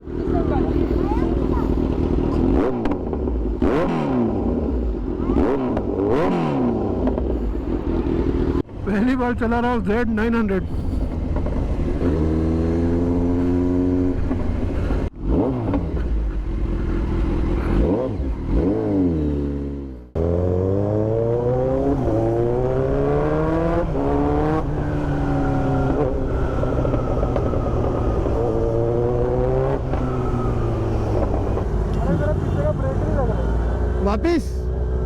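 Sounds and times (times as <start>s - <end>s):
motorcycle engine revving and accelerating: 0.0s - 10.4s, 11.0s - 35.0s.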